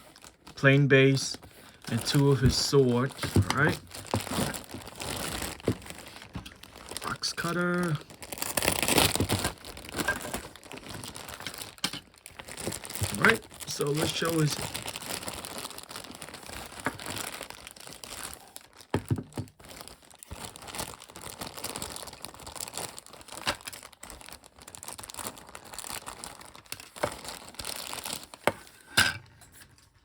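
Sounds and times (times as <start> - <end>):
plastic packaging crinkling: 0.0 - 28.8.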